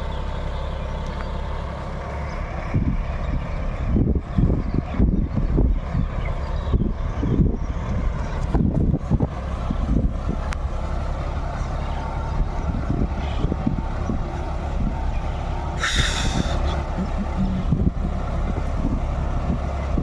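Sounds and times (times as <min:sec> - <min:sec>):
tractor diesel engine rumbling: 0:00.0 - 0:20.0.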